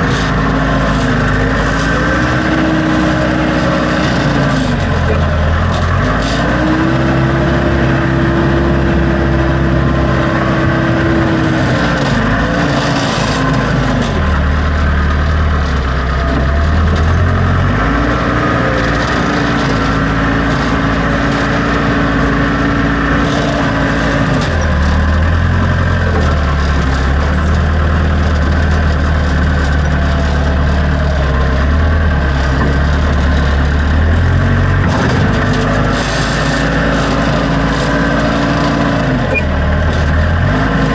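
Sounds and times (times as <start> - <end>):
backhoe engine under load: 0.0 - 40.9.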